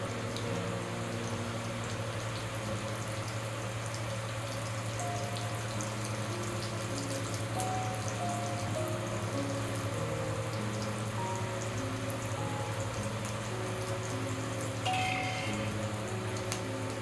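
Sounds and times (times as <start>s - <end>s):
soft background music: 0.0s - 17.0s
steady hiss with crackling: 0.0s - 17.0s.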